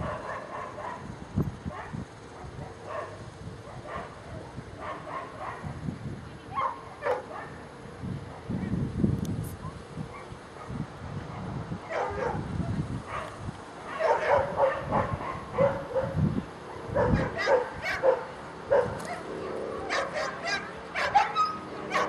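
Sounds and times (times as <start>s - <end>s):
dogs barking and yipping: 0.0s - 1.1s, 1.7s - 5.8s, 6.5s - 7.7s, 9.7s - 22.0s.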